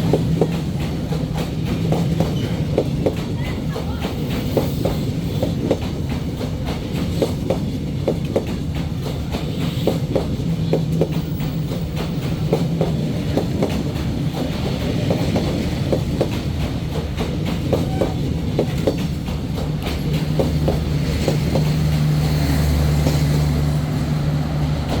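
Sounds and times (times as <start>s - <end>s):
train wheels clicking over rail joints: 0.0s - 25.0s.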